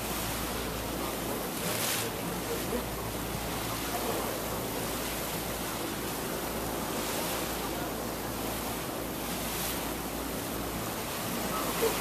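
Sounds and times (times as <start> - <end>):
wind and water rushing: 0.0 - 12.0.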